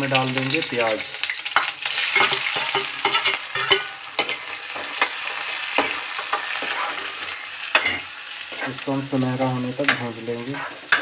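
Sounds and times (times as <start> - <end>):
onions sizzling in hot oil: 0.0 - 11.0
steel spoon scraping a pan: 1.4 - 11.0.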